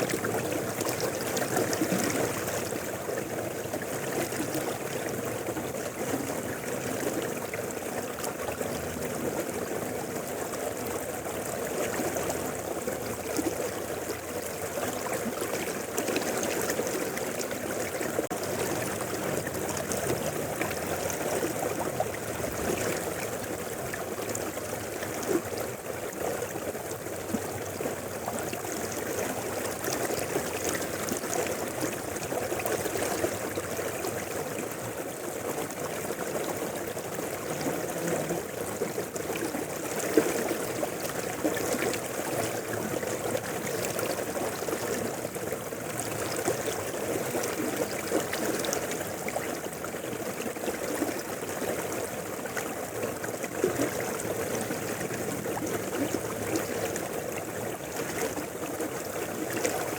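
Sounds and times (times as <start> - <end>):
small water splashes: 0.0 - 59.9.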